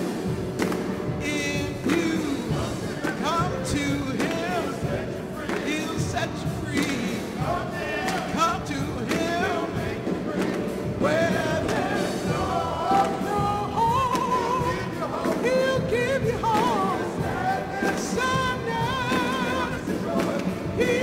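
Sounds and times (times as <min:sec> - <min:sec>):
piano and band accompaniment: 0:00.0 - 0:21.0
choir singing sacred song: 0:01.3 - 0:21.0.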